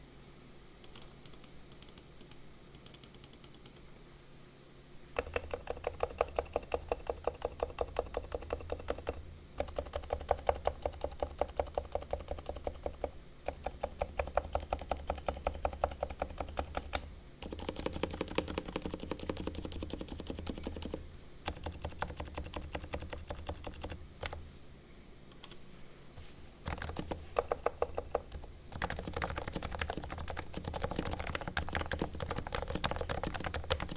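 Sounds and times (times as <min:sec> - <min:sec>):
muted keyboard typing: 0:00.8 - 0:03.8, 0:05.2 - 0:24.4, 0:26.6 - 0:33.9.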